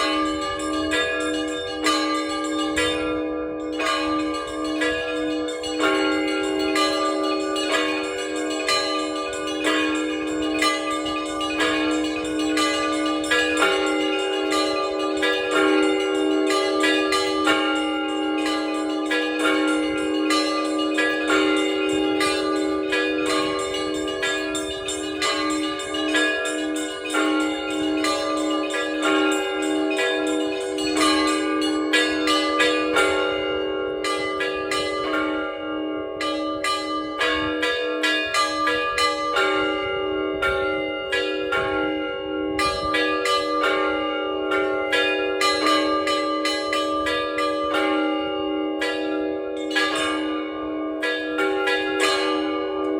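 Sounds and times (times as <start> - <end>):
large low bell ringing: 0.0 - 52.9
small bells ringing in patterns: 0.0 - 52.9.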